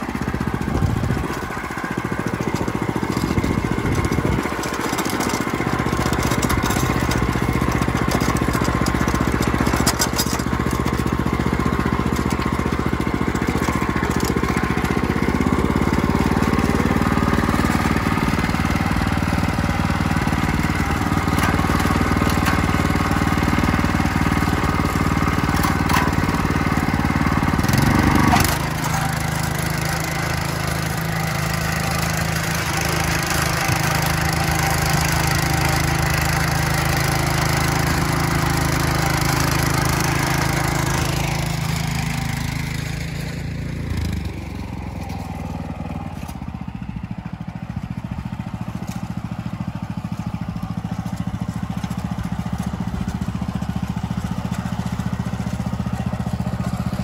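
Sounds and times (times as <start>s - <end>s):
walk-behind tractor engine running: 0.0s - 57.0s.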